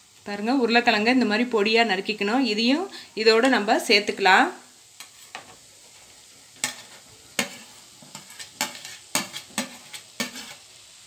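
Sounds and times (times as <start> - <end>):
faint pan sizzle: 0.0 - 11.0.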